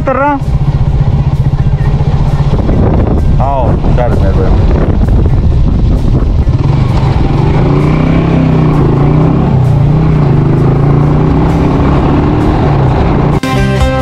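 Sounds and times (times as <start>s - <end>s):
small motorcycle engine running: 0.0s - 13.4s
wind on microphone: 0.5s - 13.4s.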